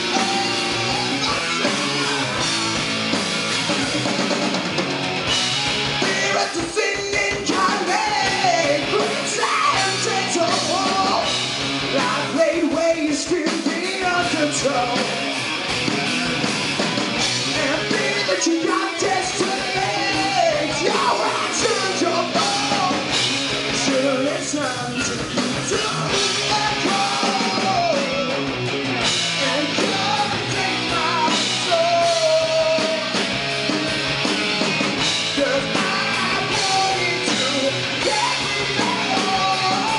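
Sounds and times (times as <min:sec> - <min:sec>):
lead vocalist singing: 0:00.0 - 0:02.8, 0:05.9 - 0:15.3, 0:17.4 - 0:28.4, 0:29.2 - 0:33.3, 0:35.0 - 0:39.9
rock band playing loud: 0:00.0 - 0:39.9.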